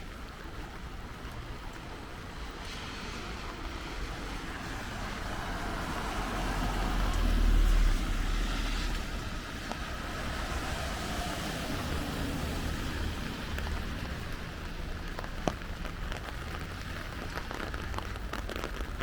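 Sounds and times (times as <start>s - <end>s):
car passing on wet road: 0.0s - 19.0s
steady rain: 0.0s - 19.0s.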